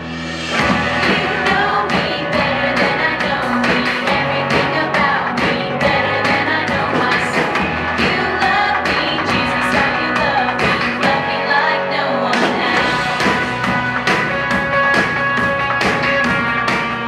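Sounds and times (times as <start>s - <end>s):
upbeat pop-rock song: 0.0s - 17.0s
voices singing along: 0.4s - 14.4s.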